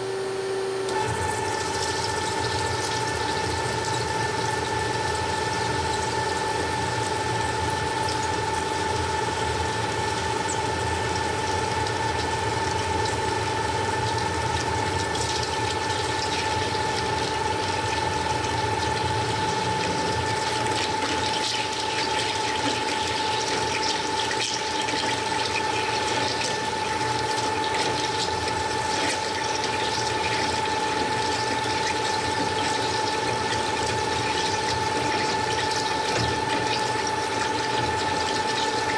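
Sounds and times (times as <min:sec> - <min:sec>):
cutting machine whining and crackling: 0:00.0 - 0:38.9.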